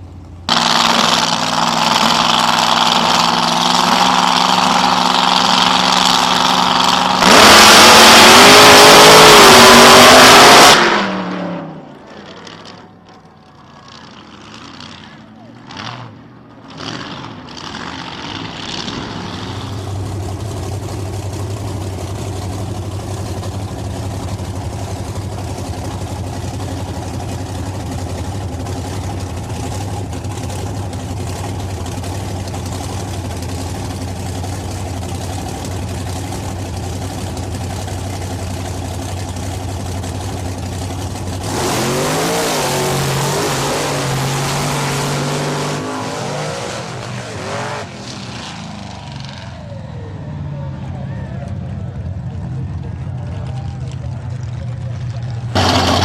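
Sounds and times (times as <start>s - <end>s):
truck engine idling: 0.0s - 9.3s, 17.4s - 47.5s, 48.6s - 56.0s
truck engine revving: 0.0s - 13.0s, 13.9s - 56.0s.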